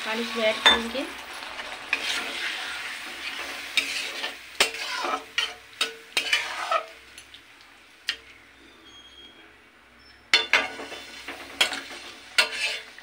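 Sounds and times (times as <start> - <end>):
sizzling in a hot pan: 0.0 - 8.8, 10.0 - 13.0
spoon stirring in a pan: 0.2 - 8.4, 10.3 - 13.0.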